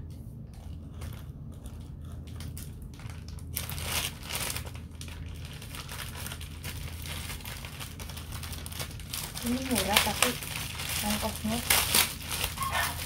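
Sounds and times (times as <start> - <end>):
plastic bag crinkling: 0.6 - 13.0.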